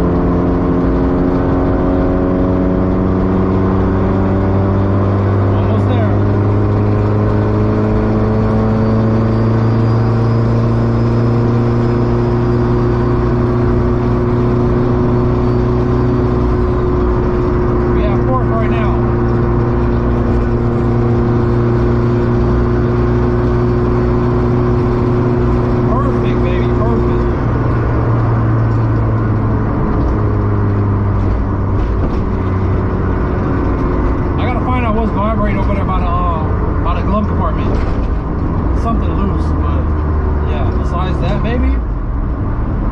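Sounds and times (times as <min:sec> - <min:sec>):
car engine droning: 0:00.0 - 0:42.9
road rumble: 0:00.0 - 0:42.9.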